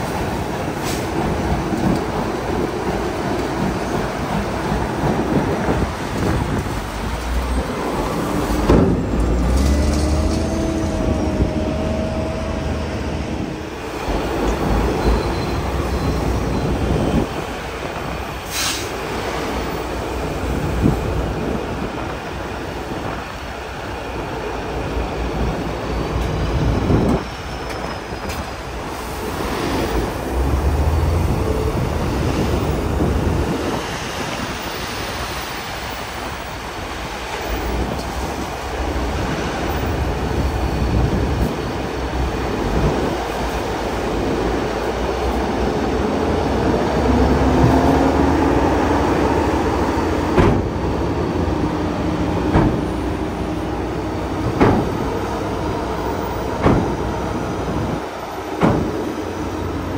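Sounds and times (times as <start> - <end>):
diesel machinery rumbling: 0.0 - 27.2, 36.1 - 59.9.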